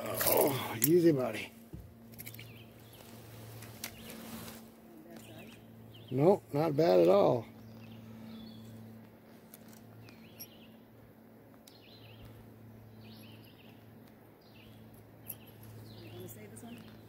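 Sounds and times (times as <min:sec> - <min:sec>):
low steady hum: 0:00.0 - 0:17.0
songbird chirping: 0:02.1 - 0:17.0.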